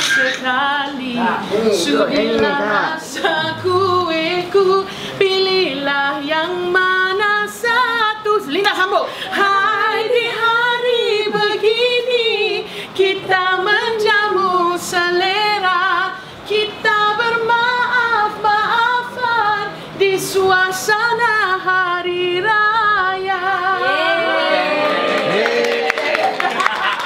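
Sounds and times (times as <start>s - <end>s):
woman singing unaccompanied: 0.0s - 24.2s.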